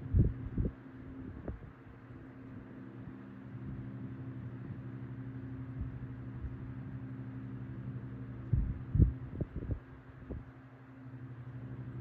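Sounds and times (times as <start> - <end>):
table fan running: 0.0 - 12.0.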